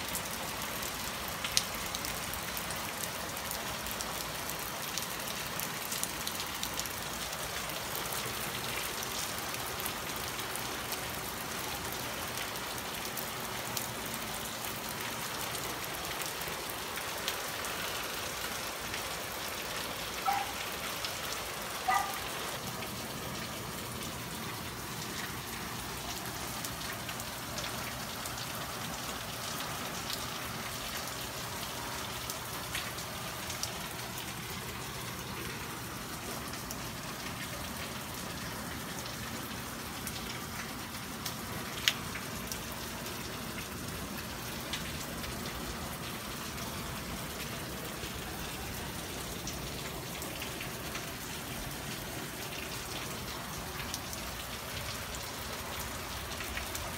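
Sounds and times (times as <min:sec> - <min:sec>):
rain on foliage and paving: 0:00.0 - 0:56.9.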